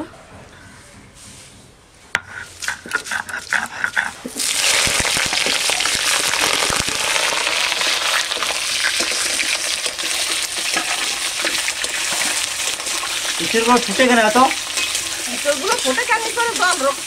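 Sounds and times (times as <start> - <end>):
oil sizzling in a pan: 2.6 - 17.0.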